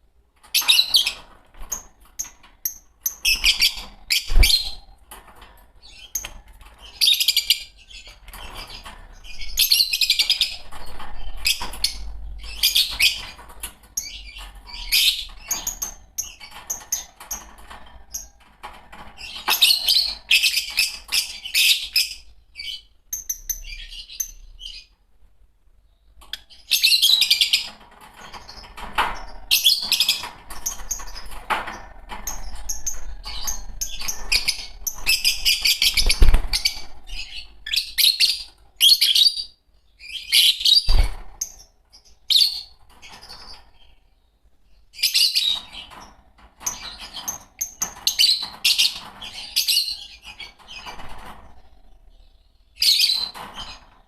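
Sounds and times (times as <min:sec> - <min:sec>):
lovebirds chirping and chattering: 0:00.4 - 0:25.0, 0:25.7 - 0:54.0.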